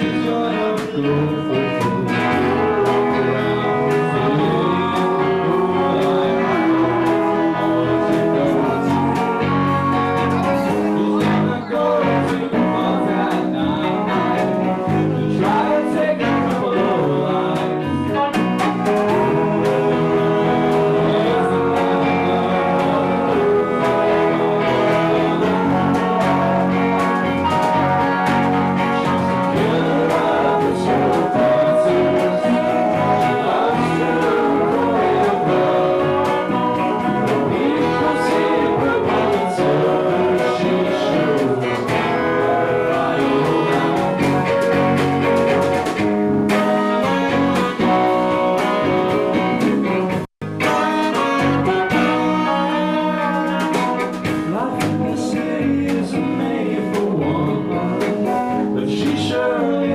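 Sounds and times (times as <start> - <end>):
live rock band playing: 0.0 - 59.9
person singing: 0.0 - 59.9.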